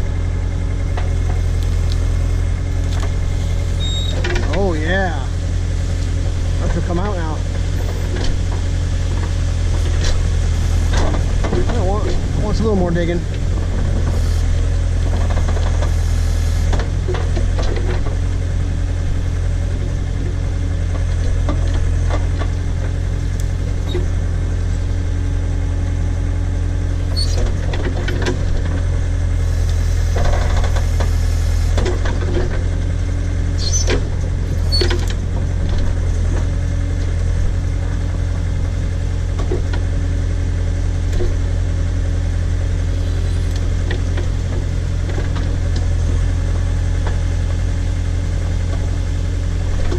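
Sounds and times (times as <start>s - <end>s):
backhoe engine running: 0.0s - 49.9s.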